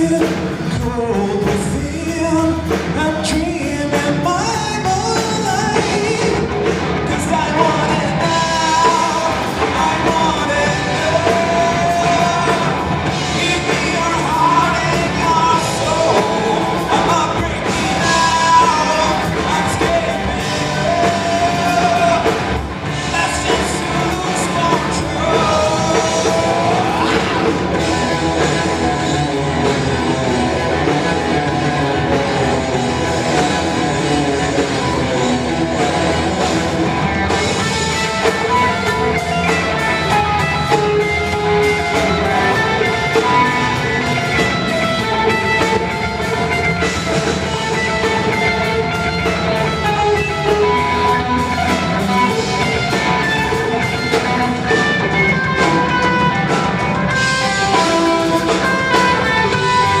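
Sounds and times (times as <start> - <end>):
drum kit with cymbals: 0.0 - 60.0
electric guitar: 0.0 - 60.0.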